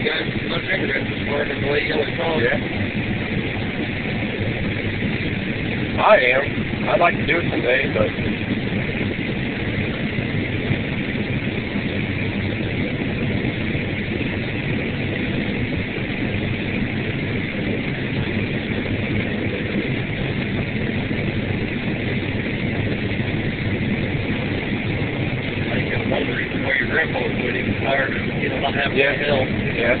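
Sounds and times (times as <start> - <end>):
combine engine hum: 0.0 - 30.0
even mechanical noise: 0.0 - 30.0.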